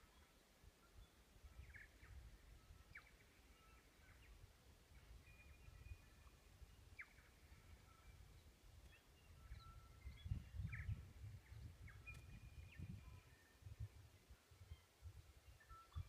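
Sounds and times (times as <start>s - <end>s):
forest birds calling: 0.0s - 13.5s.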